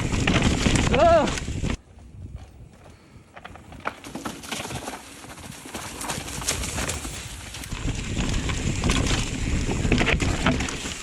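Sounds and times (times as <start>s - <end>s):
mountain bike rattling over rocks: 0.0s - 11.0s
tyre and wind rumble: 0.0s - 11.0s.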